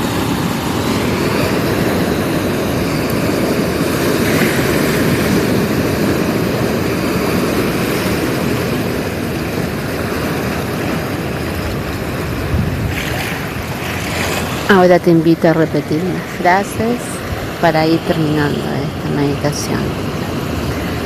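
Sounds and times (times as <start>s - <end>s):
ocean waves breaking on beach: 0.0s - 21.0s.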